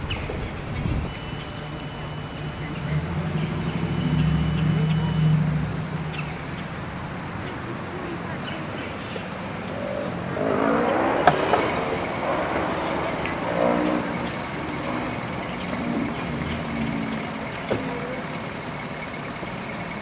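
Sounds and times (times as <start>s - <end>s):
engine humming: 0.0s - 20.0s
indistinct voices talking: 0.0s - 20.0s.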